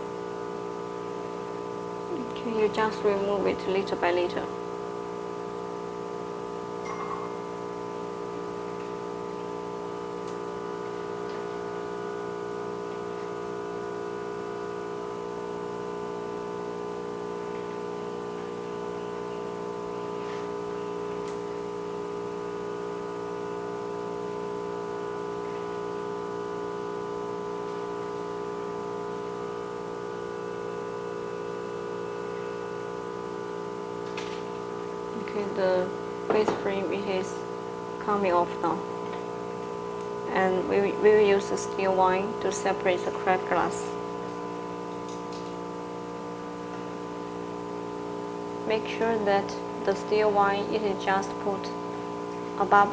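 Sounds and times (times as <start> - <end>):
machine hum: 0.0 - 52.9.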